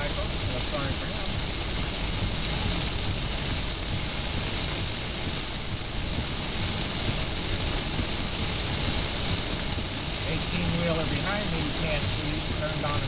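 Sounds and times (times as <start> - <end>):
heavy rain on car windshield: 0.0 - 13.0
road noise: 0.0 - 13.0.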